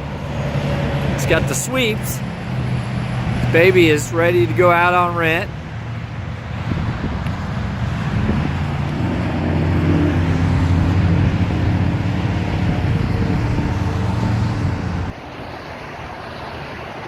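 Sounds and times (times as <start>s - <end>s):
bulldozer diesel engine running: 0.0s - 15.2s.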